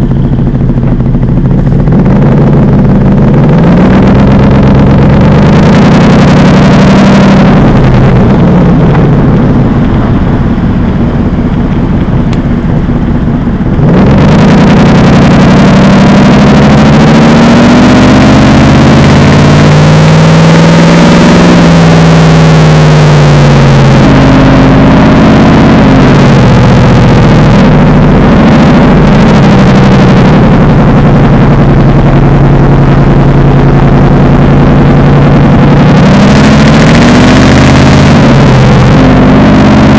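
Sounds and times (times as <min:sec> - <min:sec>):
car engine revving loudly: 0:00.0 - 0:39.9.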